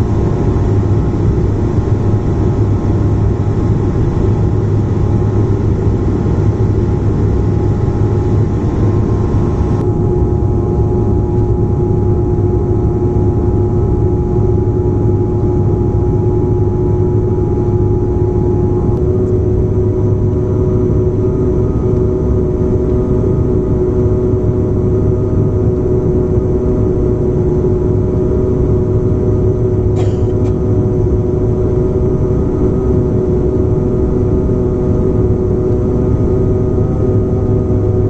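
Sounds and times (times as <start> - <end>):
airliner engines droning: 0.0 - 38.0.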